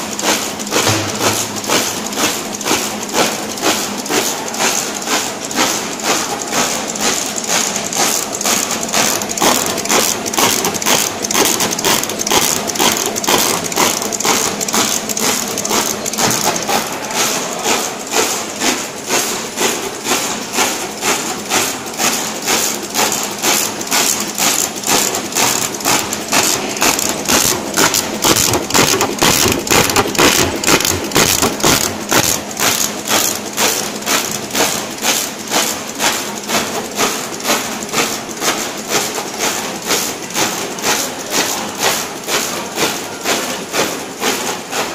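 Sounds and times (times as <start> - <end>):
label printing machine clattering: 0.0 - 44.9.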